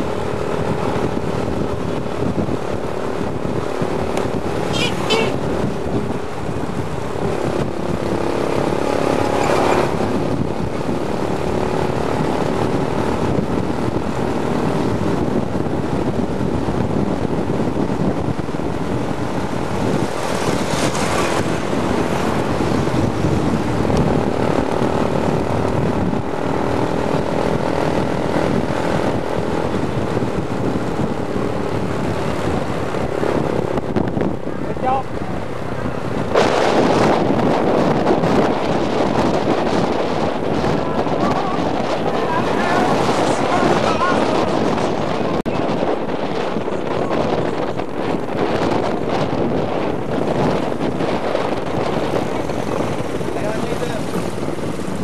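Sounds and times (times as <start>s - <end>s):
road noise: 0.0s - 55.0s
vehicle engine drone: 0.0s - 55.0s
wind rushing over microphone: 0.0s - 55.0s.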